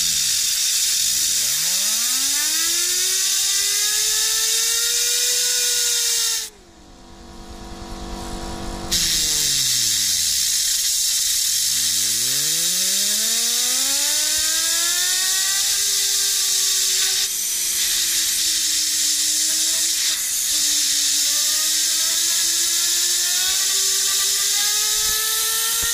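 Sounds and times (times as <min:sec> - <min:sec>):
compressed air hissing: 0:00.0 - 0:06.5, 0:08.9 - 0:25.9
fidget spinner bearing whine: 0:00.0 - 0:25.9.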